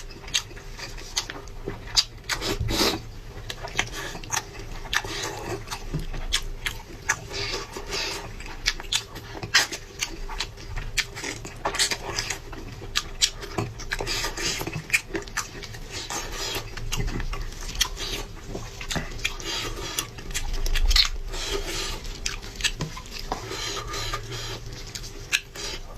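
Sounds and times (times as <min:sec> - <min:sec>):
person chewing: 0:00.0 - 0:25.9.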